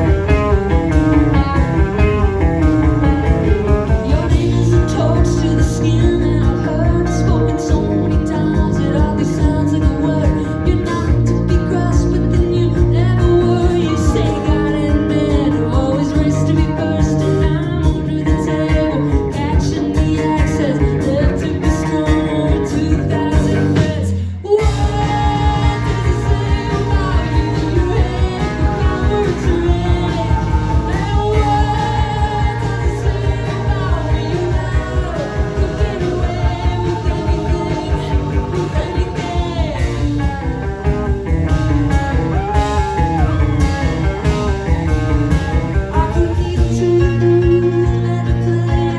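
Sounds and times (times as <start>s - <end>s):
live band with electric guitar: 0.0s - 48.9s
woman singing: 0.0s - 48.9s.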